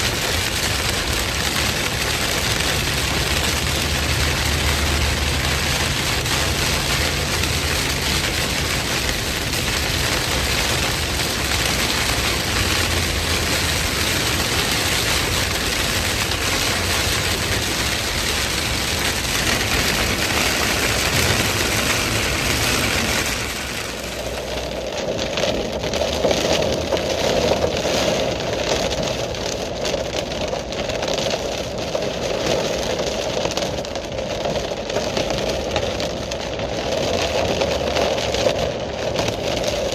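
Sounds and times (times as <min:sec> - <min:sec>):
heavy rain: 0:00.0 - 0:39.9
vehicle engine hum: 0:00.0 - 0:39.9.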